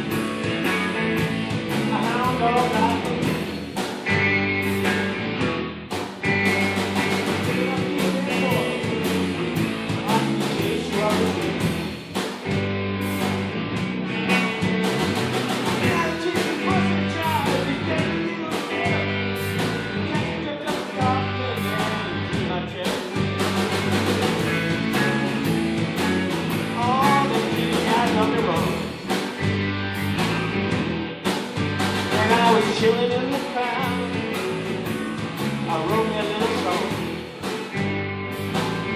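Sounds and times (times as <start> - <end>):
rock band playing a shuffle: 0.0 - 38.9.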